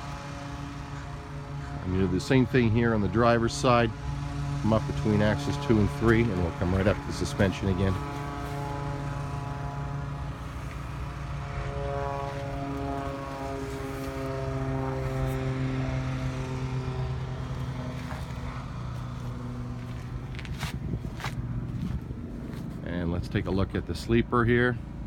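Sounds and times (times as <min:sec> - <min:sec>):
steady engine drone: 0:00.0 - 0:25.0.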